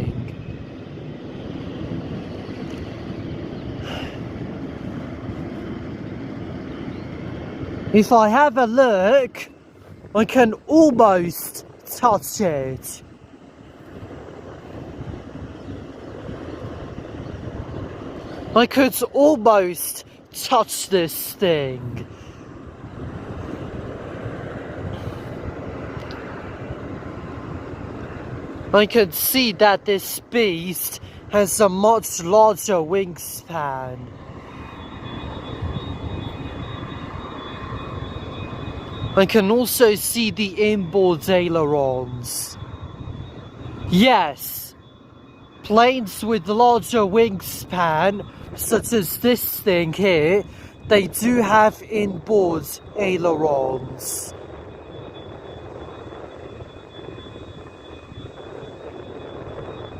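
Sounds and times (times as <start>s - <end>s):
aircraft tow tractor rumbling: 0.0s - 59.9s.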